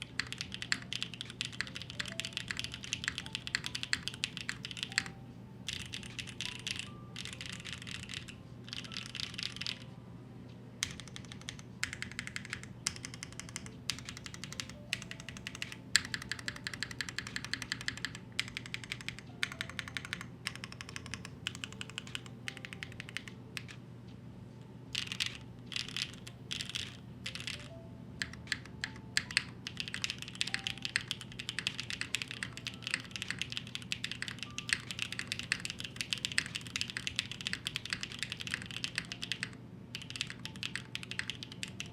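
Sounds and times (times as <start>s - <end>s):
mechanical keyboard typing: 0.0s - 9.9s, 10.8s - 23.8s, 24.9s - 41.9s.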